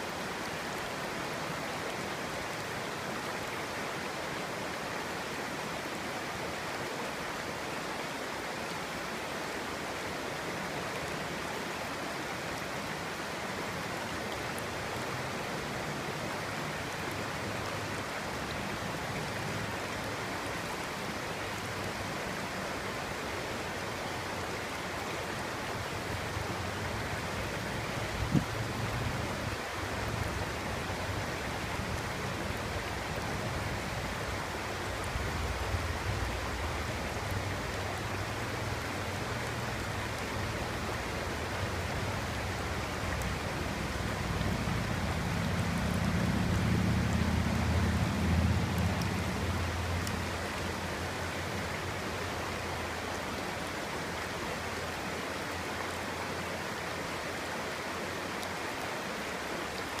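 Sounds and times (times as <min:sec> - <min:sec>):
stream babbling: 0:00.0 - 1:00.0.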